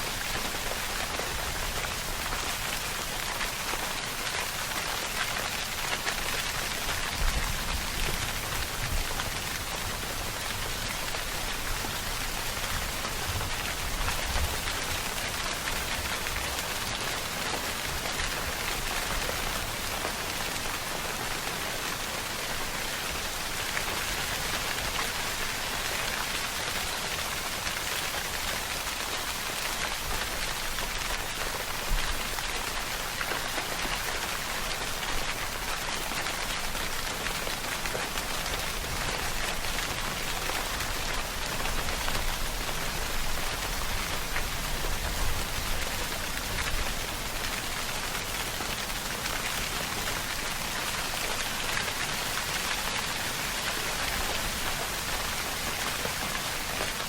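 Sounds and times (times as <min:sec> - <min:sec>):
hiss of rain: 0:00.0 - 0:57.0.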